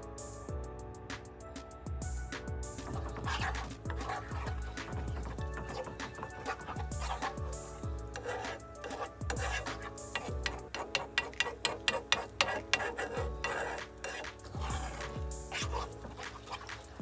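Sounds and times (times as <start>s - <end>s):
background music with steady beat: 0.0s - 17.0s
metal utensil scraping frying pan: 2.8s - 17.0s.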